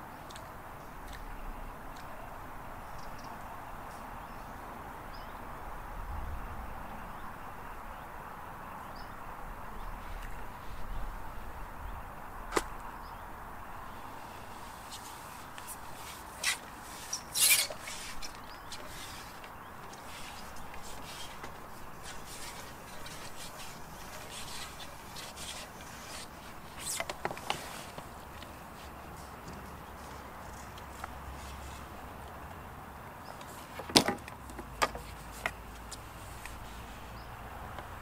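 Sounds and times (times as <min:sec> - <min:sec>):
outdoor background hiss: 0:00.0 - 0:38.0.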